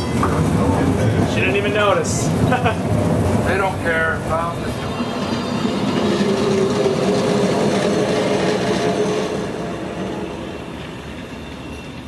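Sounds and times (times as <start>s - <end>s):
streetcar rolling on rails: 0.0s - 12.0s.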